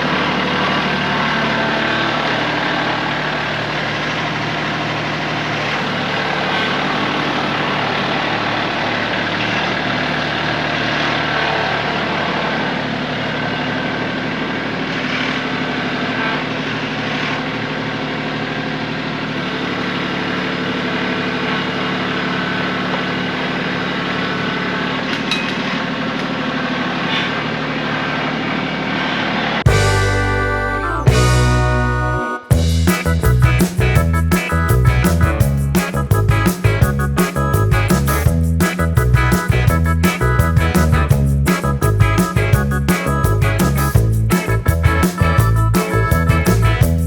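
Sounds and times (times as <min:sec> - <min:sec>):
diesel tractor engine running: 0:00.0 - 0:47.0.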